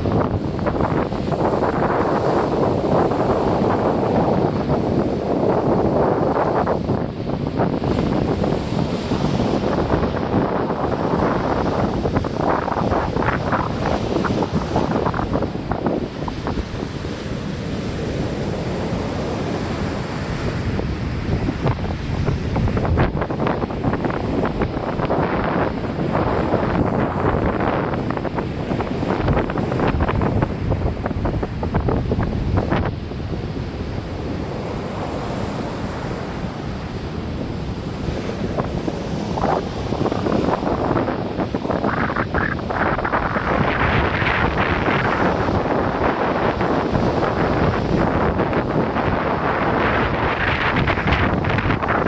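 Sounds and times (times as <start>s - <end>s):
sea waves breaking: 0.0s - 52.0s
wind buffeting microphone: 0.0s - 52.0s.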